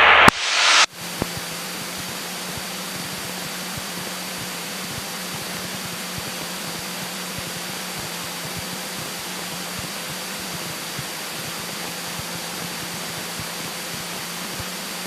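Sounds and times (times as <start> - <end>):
airplane engine and propeller hiss: 0.0 - 15.0.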